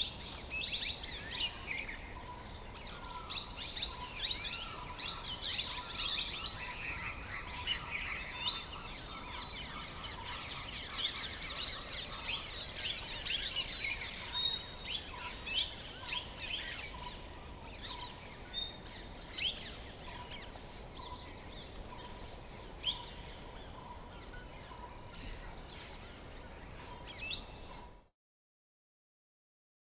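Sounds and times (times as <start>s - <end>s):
birds chirping: 0.0s - 28.1s
steady background hiss: 0.0s - 28.1s.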